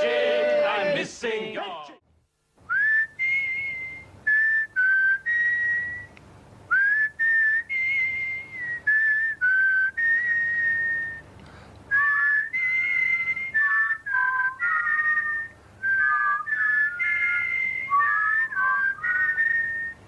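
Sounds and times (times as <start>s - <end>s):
person whistling a tune: 2.7s - 11.2s, 11.9s - 20.0s.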